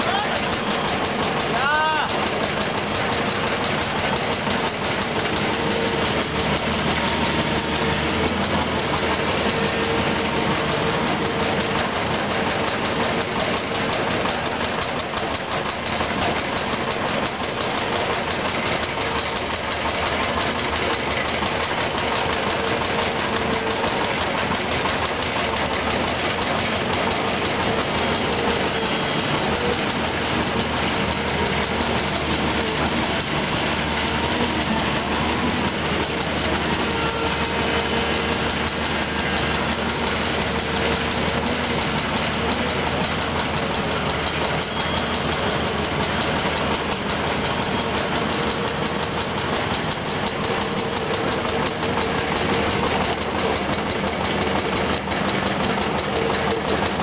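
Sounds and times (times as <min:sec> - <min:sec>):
excavator diesel engine running: 0:00.0 - 0:57.0
steady whine: 0:00.0 - 0:57.0.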